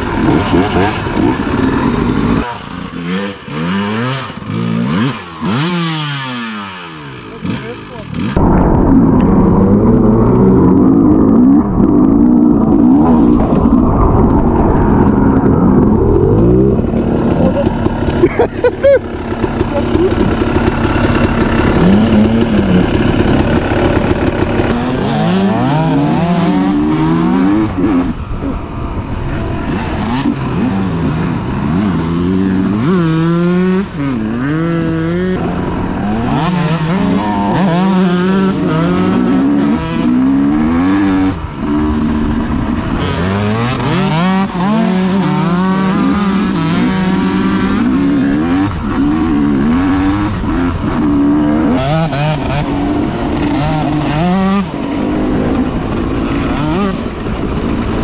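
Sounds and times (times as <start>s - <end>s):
dirt bike engine revving: 0.0s - 14.0s, 14.8s - 58.0s.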